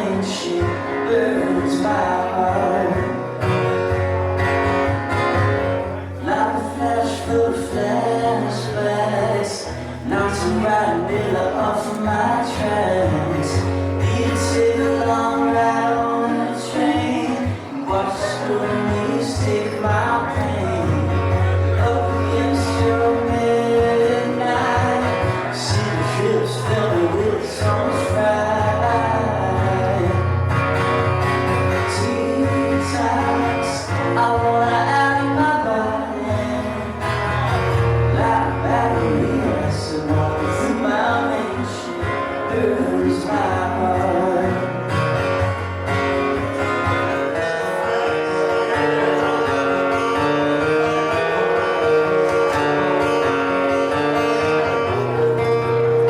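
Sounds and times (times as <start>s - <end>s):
lead guitar bending notes: 0.0s - 56.0s.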